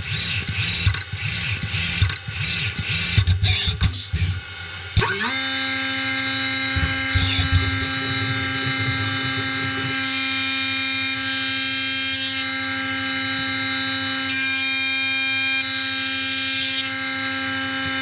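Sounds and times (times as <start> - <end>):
machine spindle whine: 0.0 - 18.0.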